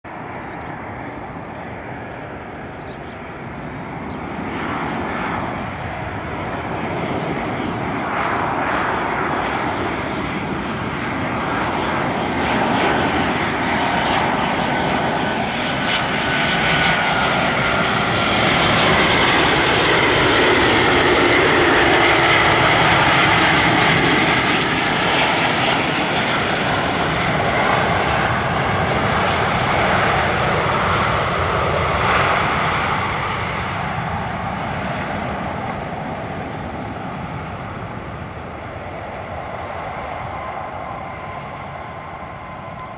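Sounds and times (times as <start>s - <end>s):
faint high engine whine: 0.1s - 42.9s
jet engine rumble and hiss: 0.1s - 42.9s.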